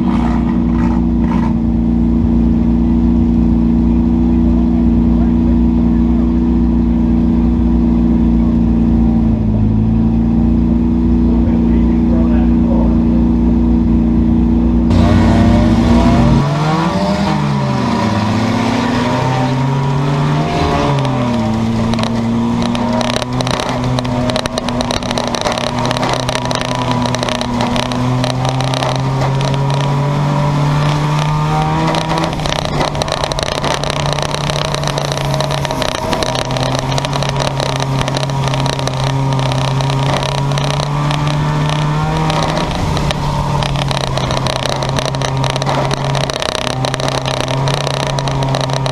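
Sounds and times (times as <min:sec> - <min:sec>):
race car engines: 0:00.0 - 0:48.9.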